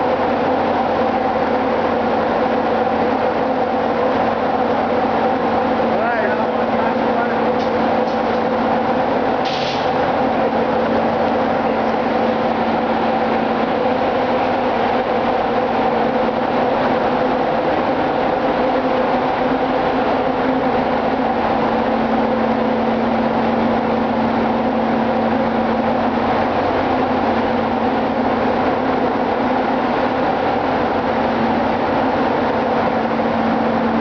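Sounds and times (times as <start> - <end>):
engine room machinery running: 0.0 - 34.0.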